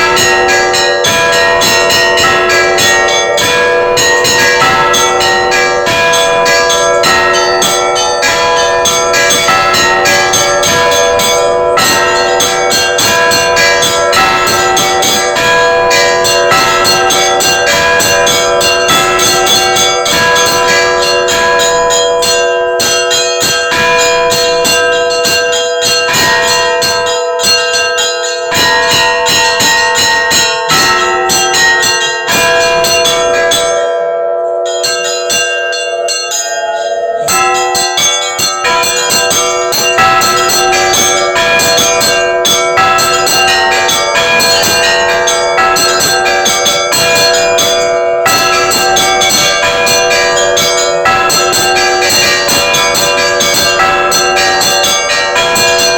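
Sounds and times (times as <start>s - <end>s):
hum of large bells: 0.0s - 55.9s
small church bells pealing: 0.0s - 55.9s.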